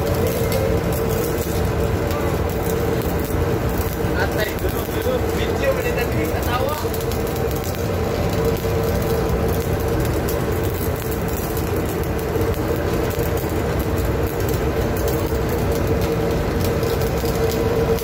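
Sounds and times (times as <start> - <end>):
ship machinery drone: 0.0 - 18.0.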